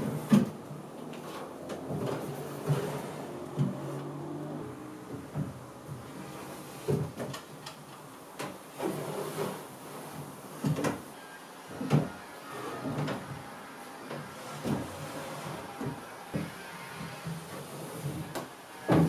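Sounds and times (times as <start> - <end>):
wooden drawers sliding: 0.0 - 11.1, 11.7 - 19.0.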